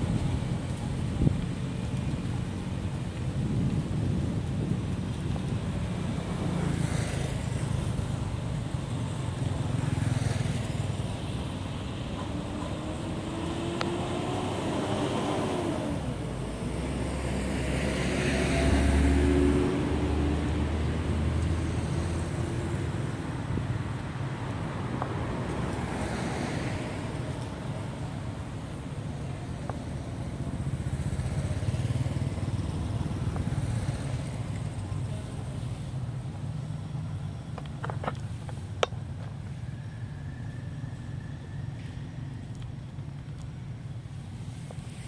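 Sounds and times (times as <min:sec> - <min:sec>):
distant traffic: 0:00.0 - 0:45.0
wind: 0:00.0 - 0:45.0.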